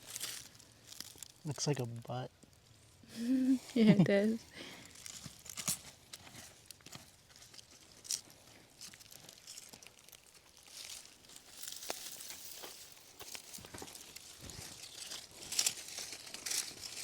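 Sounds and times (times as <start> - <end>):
crunching of dry vines and soil: 0.0 - 2.5, 4.1 - 17.0
rustling: 3.2 - 17.0.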